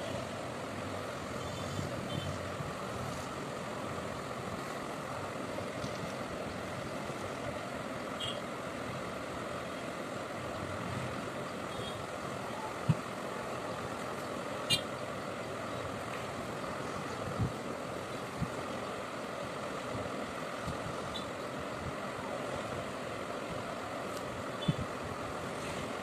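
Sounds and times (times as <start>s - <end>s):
steady background noise: 0.0s - 26.0s.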